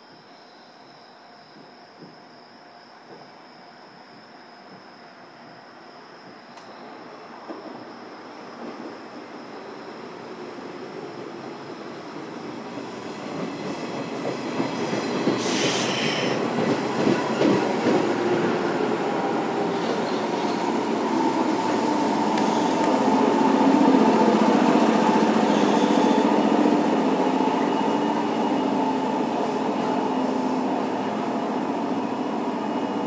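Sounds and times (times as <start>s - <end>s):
electric train on rails: 0.0s - 33.0s
steady train hum: 0.0s - 33.0s.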